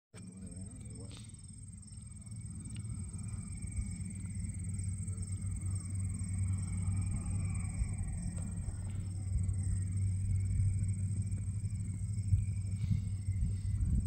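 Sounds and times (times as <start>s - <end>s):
light aircraft engine drone: 0.1s - 14.0s.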